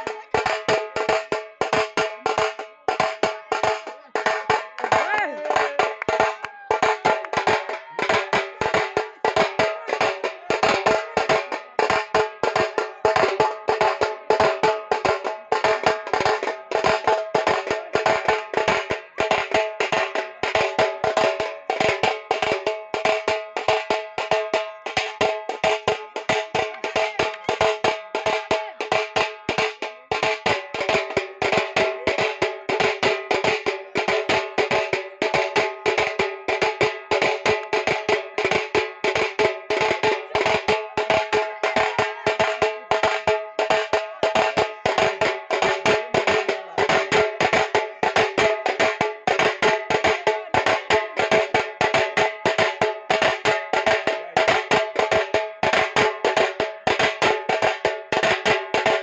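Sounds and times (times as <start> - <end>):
fast steady drumming: 0.0 - 59.0.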